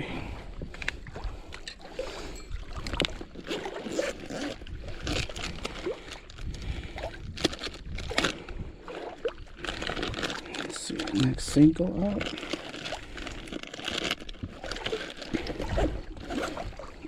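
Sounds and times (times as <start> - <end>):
fishing gear knocks and rustles: 0.5 - 17.0.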